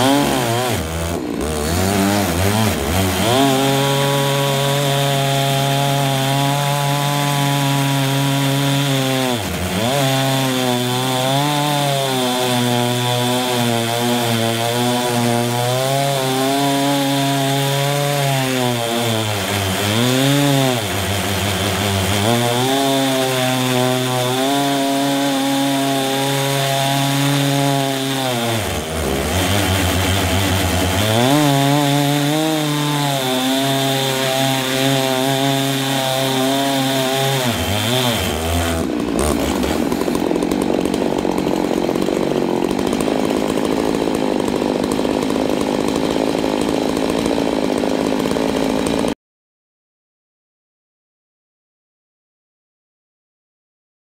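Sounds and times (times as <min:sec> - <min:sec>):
chainsaws cutting log: 0:00.0 - 0:49.2.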